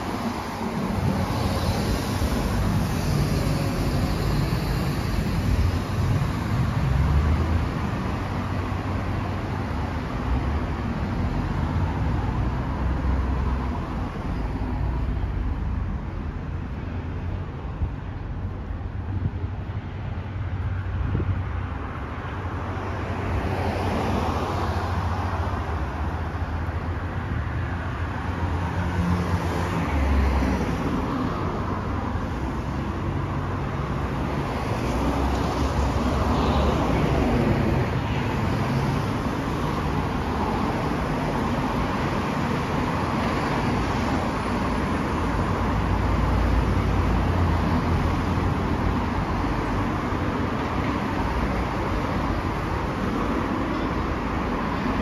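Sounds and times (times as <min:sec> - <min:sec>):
cars passing on street: 0:00.0 - 0:55.0.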